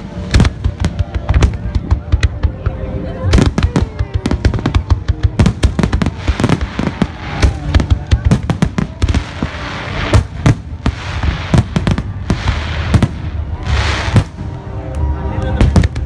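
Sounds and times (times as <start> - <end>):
fireworks bangs: 0.0 - 14.8
fireworks crackling: 0.0 - 16.0.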